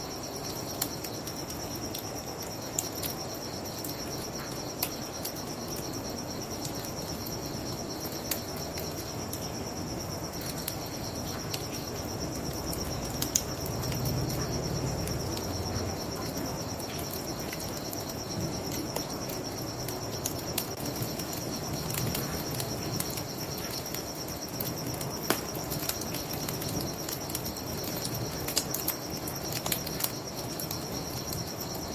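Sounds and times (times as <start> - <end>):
crickets trilling: 0.0 - 31.9
wood fire crackling: 0.1 - 31.9.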